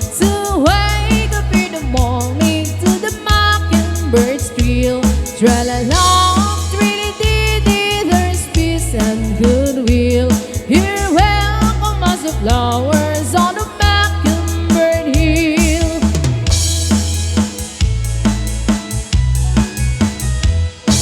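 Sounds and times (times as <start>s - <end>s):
live band playing a waltz: 0.0s - 21.0s.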